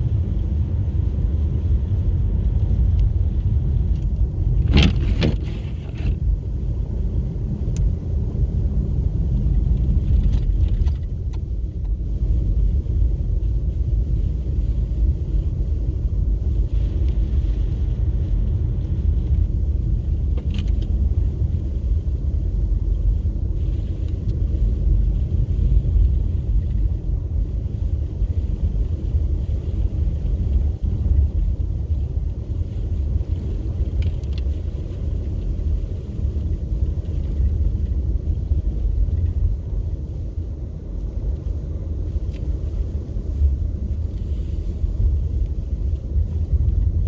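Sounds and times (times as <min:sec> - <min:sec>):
car engine and tyre rumble: 0:00.0 - 0:47.0.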